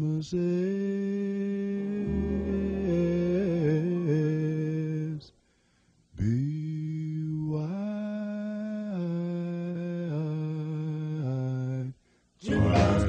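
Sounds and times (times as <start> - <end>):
slow vocal melody: 0.0 - 13.0.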